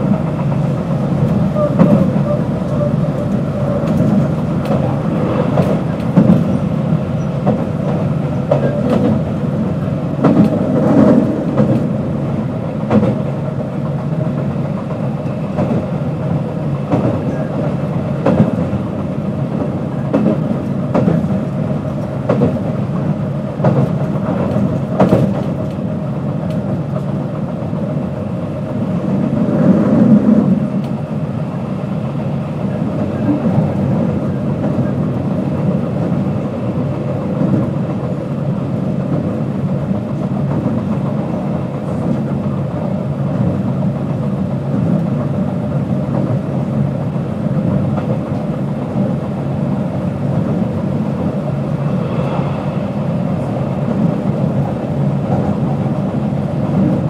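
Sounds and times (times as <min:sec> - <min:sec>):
clacks over rail joints: 0:00.0 - 0:27.6, 0:32.7 - 0:51.5
train wheels rumbling on track: 0:00.0 - 0:57.0.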